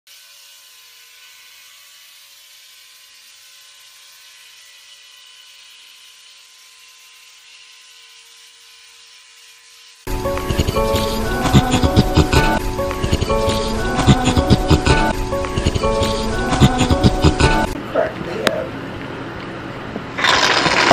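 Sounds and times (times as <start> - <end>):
electric shaver whirring: 0.1 - 17.8.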